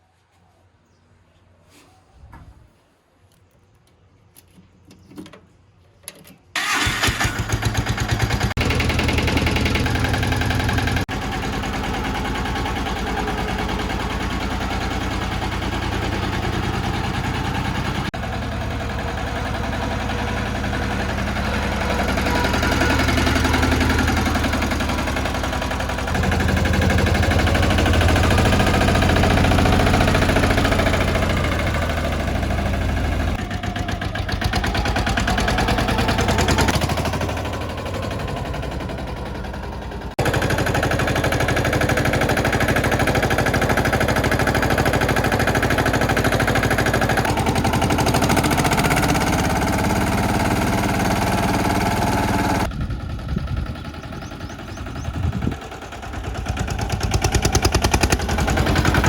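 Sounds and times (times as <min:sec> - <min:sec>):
tractor diesel engine running: 0:06.5 - 0:59.0.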